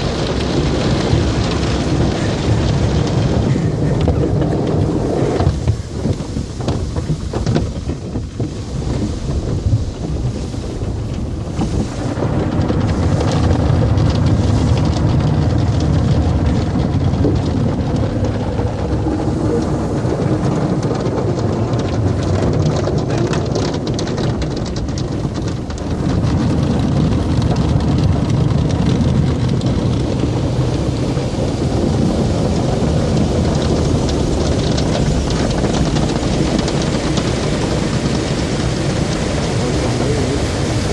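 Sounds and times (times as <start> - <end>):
car wash water spray drumming: 0.0 - 40.9
deep rumble: 0.0 - 40.9.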